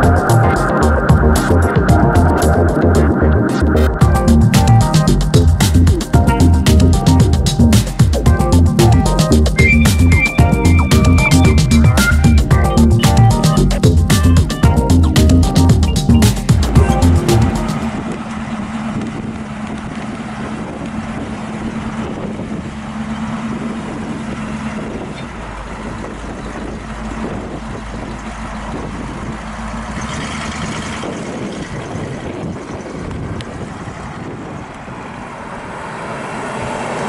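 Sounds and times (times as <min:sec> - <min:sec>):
truck engine driving away: 0:00.0 - 0:37.0.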